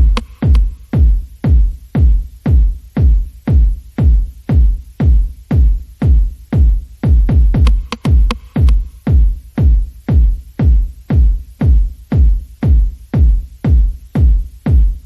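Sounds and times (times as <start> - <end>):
deep kick drum: 0.0 - 15.0
electronic music: 0.0 - 15.0.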